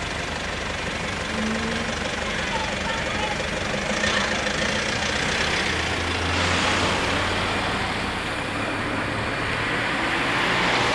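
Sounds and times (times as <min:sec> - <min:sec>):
cars pulling away: 0:00.0 - 0:10.9
low engine hum: 0:00.0 - 0:10.9.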